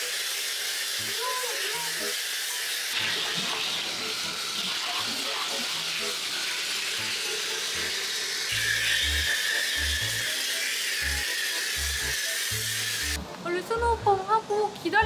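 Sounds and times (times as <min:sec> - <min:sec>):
pressure washer spray hissing: 0:00.0 - 0:13.2.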